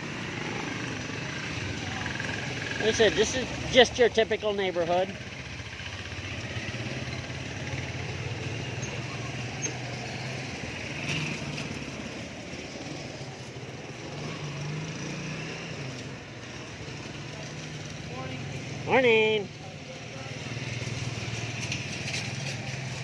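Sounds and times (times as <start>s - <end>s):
road and wind noise: 0.0s - 23.0s
small vehicle engine humming: 0.0s - 23.0s.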